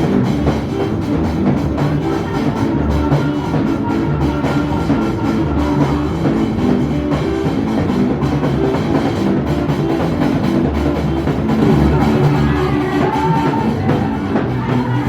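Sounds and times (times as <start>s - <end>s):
band music: 0.0s - 15.0s
drum kit beat: 0.0s - 15.0s.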